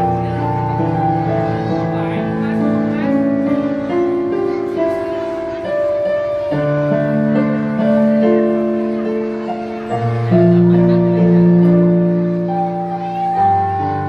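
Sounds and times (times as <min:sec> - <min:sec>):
electronic keyboard music: 0:00.0 - 0:14.0.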